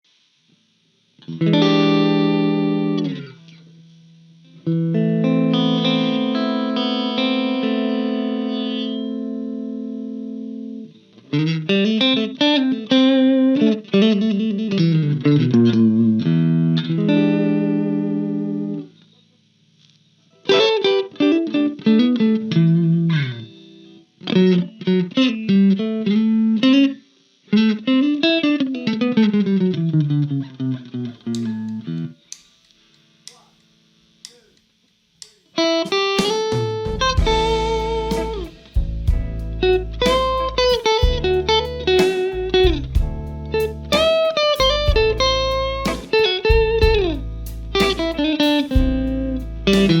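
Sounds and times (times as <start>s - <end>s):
solo guitar playing: 1.2s - 19.0s, 20.4s - 32.2s, 35.6s - 50.0s.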